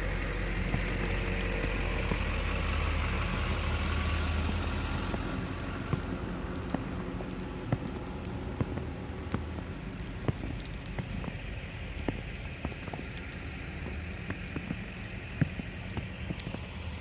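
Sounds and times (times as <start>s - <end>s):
engine idling: 0.0s - 17.0s
light clicks and crackles: 0.0s - 17.0s.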